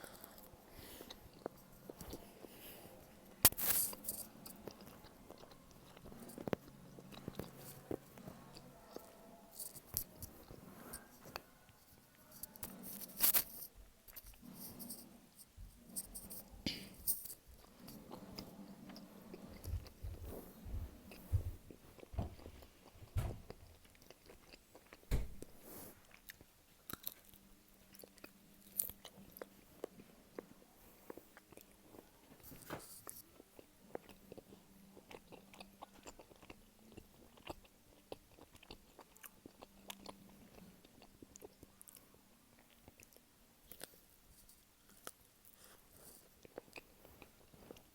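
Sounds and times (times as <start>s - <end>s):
chewing meat snack: 0.0s - 14.4s, 22.0s - 25.0s, 26.0s - 47.9s.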